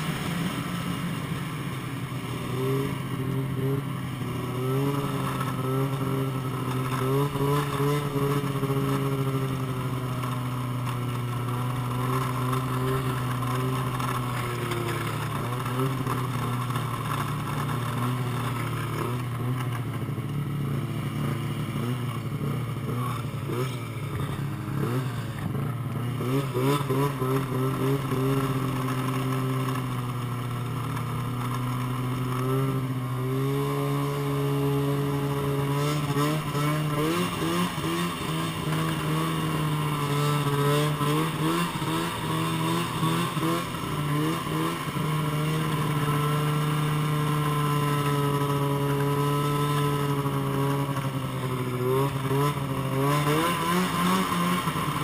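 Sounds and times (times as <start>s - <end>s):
dirt bike engine revving: 2.3s - 19.9s, 20.7s - 55.0s.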